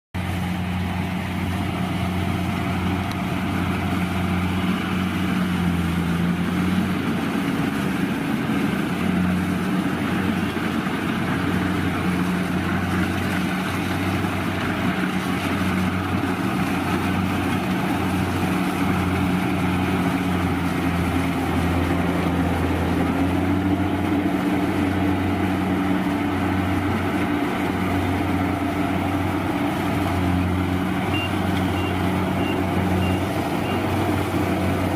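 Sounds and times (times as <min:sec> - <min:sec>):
combine harvester running: 0:00.2 - 0:34.9.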